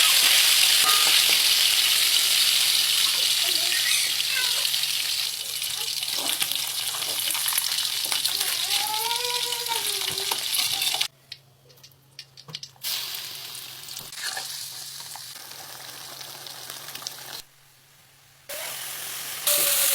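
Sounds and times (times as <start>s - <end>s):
hot oil sizzling: 0.0s - 11.1s, 12.7s - 19.9s.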